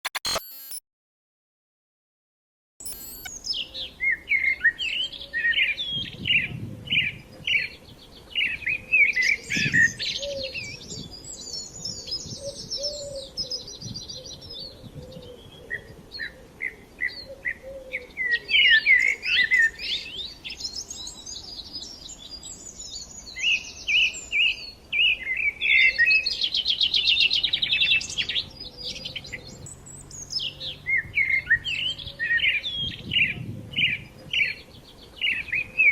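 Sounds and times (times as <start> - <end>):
small songbirds singing: 2.8 - 35.9.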